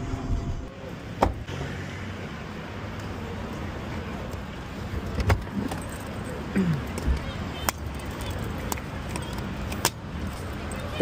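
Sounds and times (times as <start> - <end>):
car road noise in traffic: 0.0 - 11.0.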